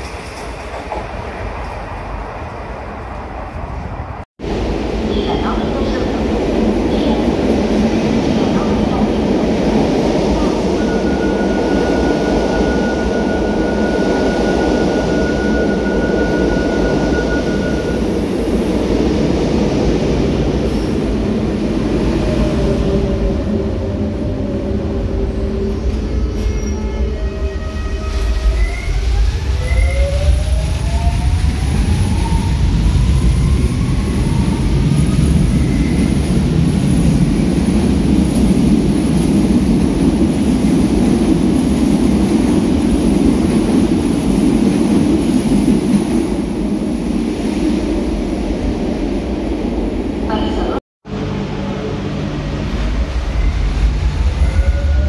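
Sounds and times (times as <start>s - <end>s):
train rumbling along platform: 0.0s - 55.0s.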